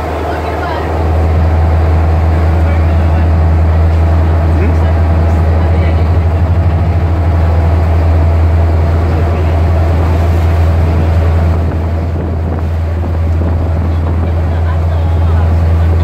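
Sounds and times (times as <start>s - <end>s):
boat engine droning: 0.0s - 16.0s
wind on microphone: 0.0s - 16.0s.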